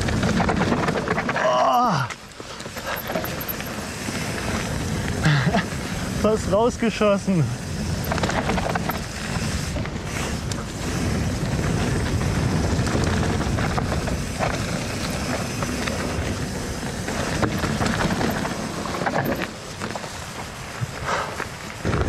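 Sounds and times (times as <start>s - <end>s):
wind rushing over microphone: 3.2s - 22.0s.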